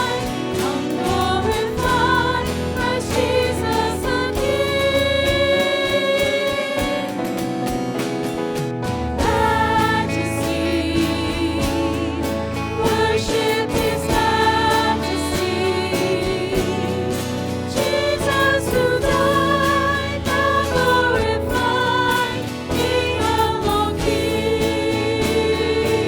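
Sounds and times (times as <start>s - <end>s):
voices singing a hymn: 0.0s - 26.0s.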